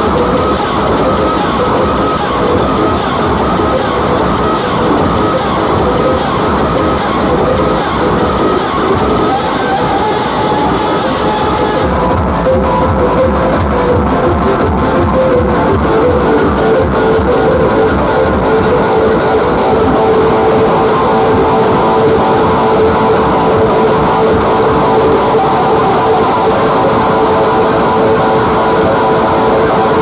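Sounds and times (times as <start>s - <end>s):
loud music through speakers: 0.0s - 30.0s.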